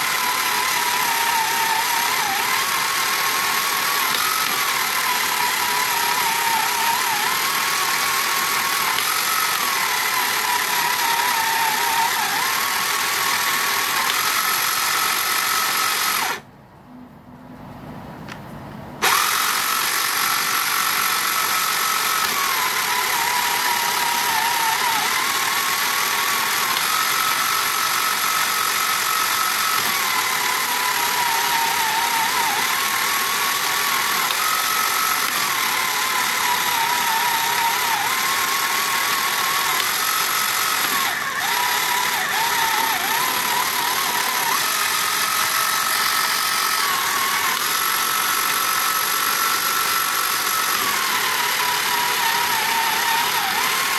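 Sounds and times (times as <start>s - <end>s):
toy motor and gears whirring: 0.0s - 16.4s, 19.0s - 53.9s.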